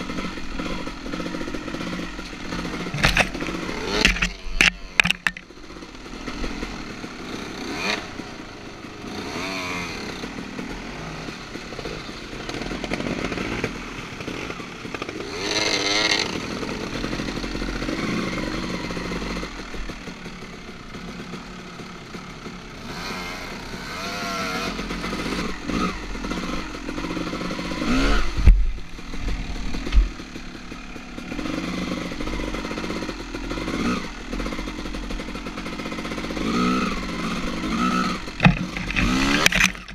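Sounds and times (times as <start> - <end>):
clatter: 0.0 - 39.9
dirt bike engines revving: 0.0 - 39.9.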